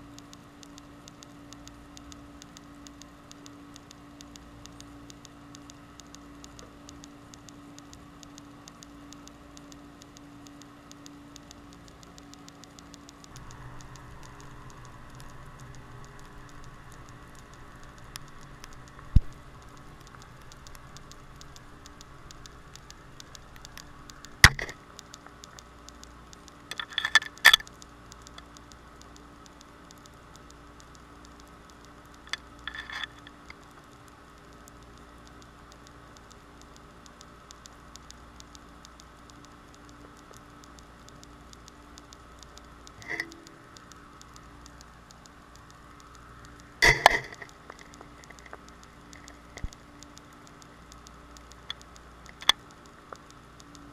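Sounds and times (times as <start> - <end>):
low underwater hum: 0.0 - 53.9
snapping shrimp clicks: 0.0 - 53.9.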